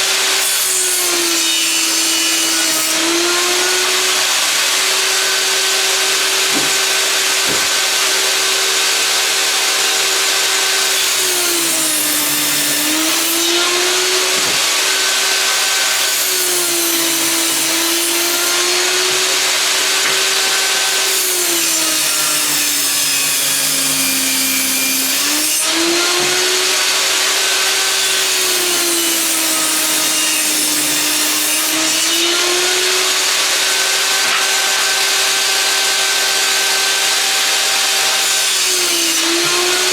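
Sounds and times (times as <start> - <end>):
saw blade rasping through wood: 0.0 - 39.9.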